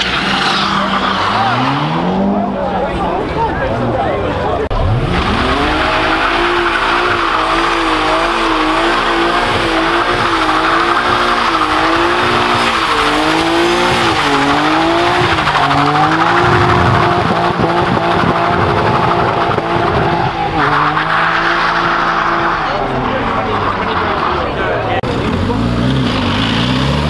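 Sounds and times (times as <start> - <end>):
tyres squealing: 0.0 - 25.0
car engine revving high: 0.0 - 27.0.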